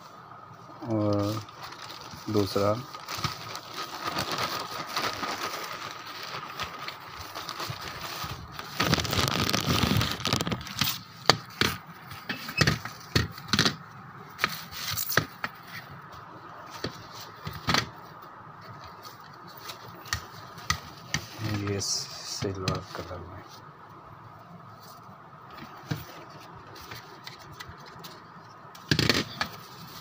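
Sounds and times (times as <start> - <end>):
plastic wrap crinkling: 0.7 - 23.5, 24.7 - 30.0.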